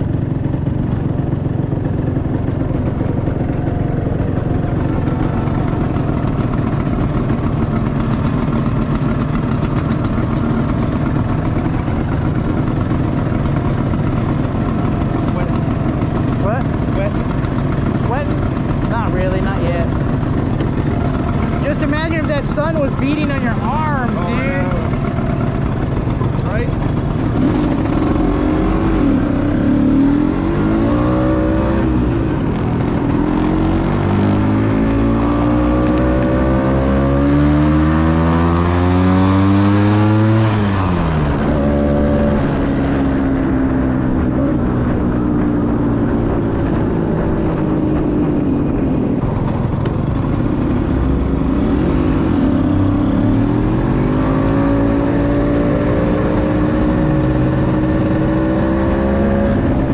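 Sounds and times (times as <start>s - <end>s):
scooter engine accelerating: 0.0s - 59.9s.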